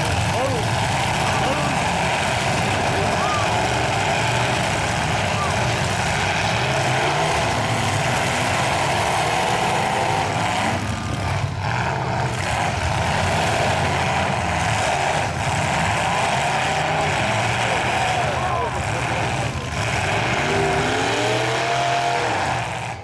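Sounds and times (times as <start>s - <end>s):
truck engines running hard: 0.0s - 23.0s.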